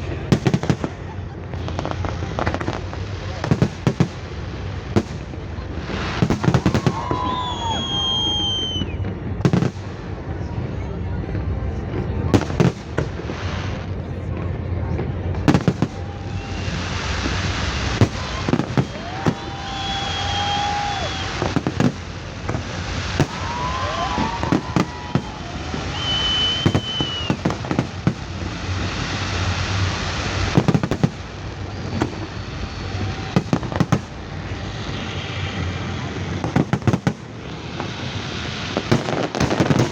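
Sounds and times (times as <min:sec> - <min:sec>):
firework bangs: 0:00.0 - 0:10.3, 0:12.2 - 0:14.0, 0:15.3 - 0:39.9
fireworks crackling: 0:00.0 - 0:39.9.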